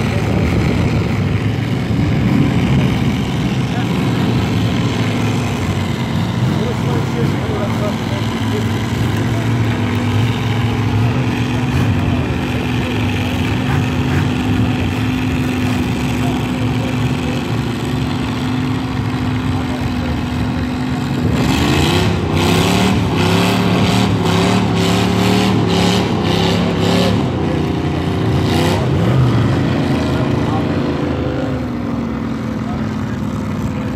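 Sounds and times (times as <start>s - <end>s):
pickup truck engine revving: 0.0s - 33.9s.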